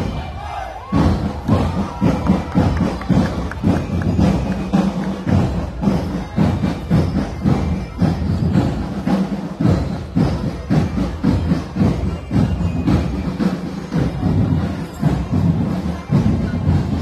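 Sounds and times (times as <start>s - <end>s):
marching drum band: 0.0s - 17.0s.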